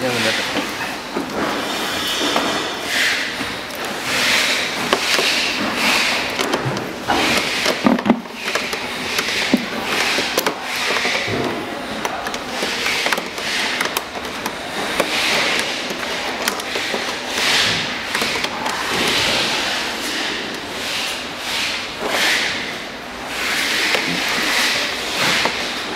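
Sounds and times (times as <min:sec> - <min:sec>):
hard plastic scraping and clicking: 0:00.0 - 0:25.9.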